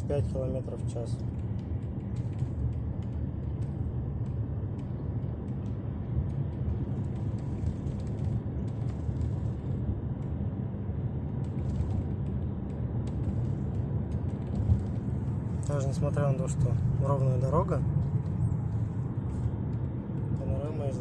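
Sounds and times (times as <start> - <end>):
road and cabin rumble: 0.0 - 21.0.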